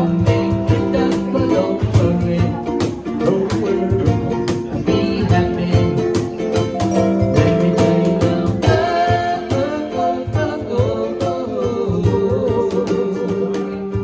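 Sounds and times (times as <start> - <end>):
live reggae band playing: 0.0 - 14.0
person singing: 0.0 - 14.0.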